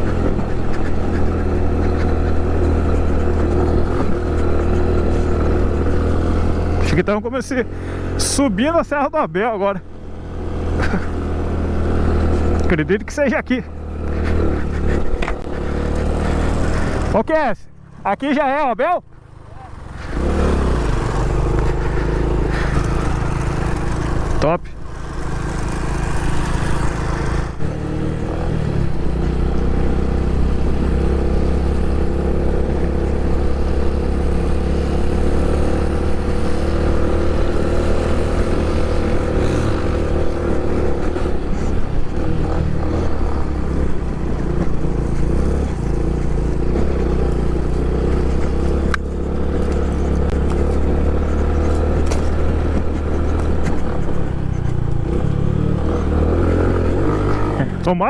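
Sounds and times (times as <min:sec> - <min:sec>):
rumble of wind and road: 0:00.0 - 0:58.0
small motorcycle engine running: 0:00.0 - 0:58.0.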